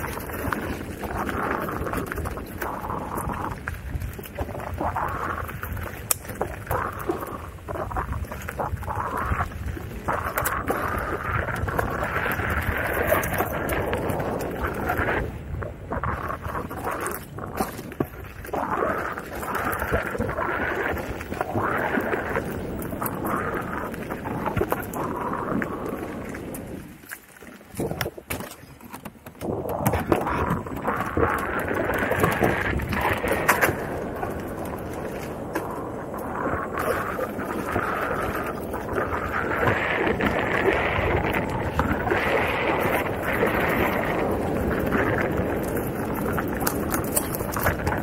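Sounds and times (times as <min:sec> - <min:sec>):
gravel ticks: 0:00.0 - 0:48.0
tyre noise: 0:00.0 - 0:48.0
wind on microphone: 0:00.0 - 0:48.0.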